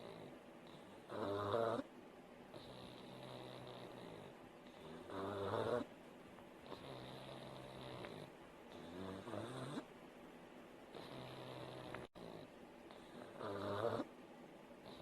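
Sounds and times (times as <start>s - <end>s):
dog snoring: 0.0s - 1.9s, 2.5s - 5.9s, 6.6s - 9.9s, 10.9s - 14.1s, 14.8s - 15.0s.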